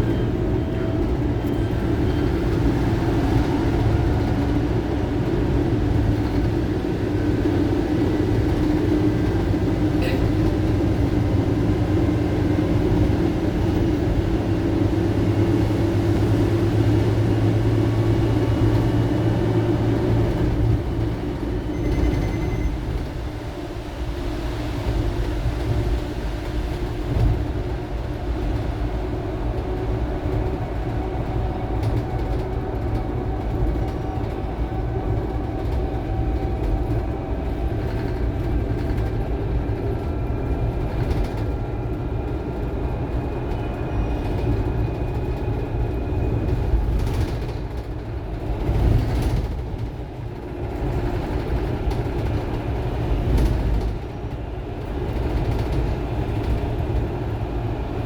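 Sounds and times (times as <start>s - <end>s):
bus road rumble: 0.0s - 58.0s.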